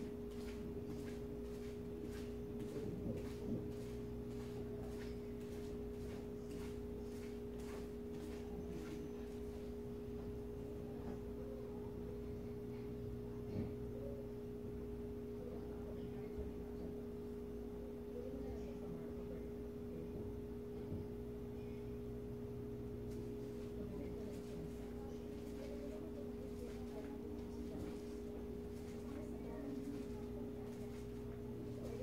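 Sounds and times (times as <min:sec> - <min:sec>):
low two-tone hum: 0:00.0 - 0:32.0.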